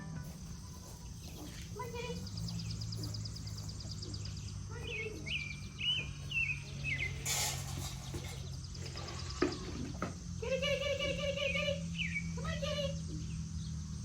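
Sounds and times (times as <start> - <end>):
insects pulsing: 0.0 - 14.0
steady low hum: 0.0 - 14.0
bird chirping: 0.1 - 14.0.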